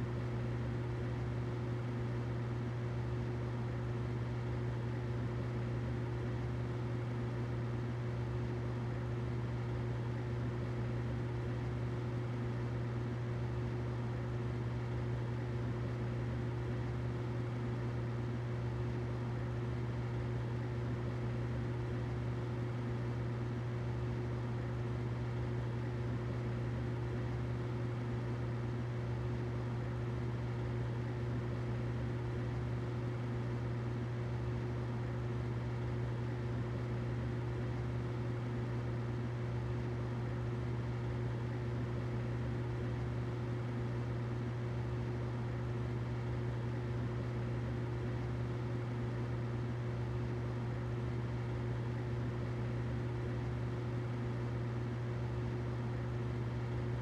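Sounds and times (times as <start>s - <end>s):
humidifier humming and hissing: 0.0s - 57.0s.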